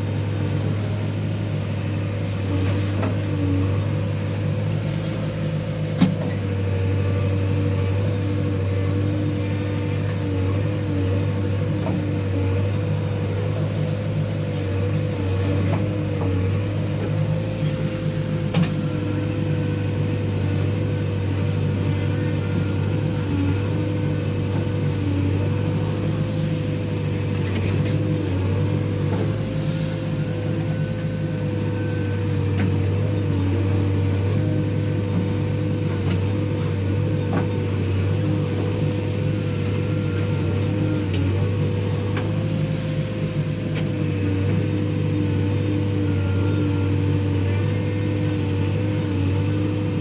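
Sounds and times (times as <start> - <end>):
heavy diesel engine running: 0.0 - 50.0
thin steady whine: 0.0 - 50.0.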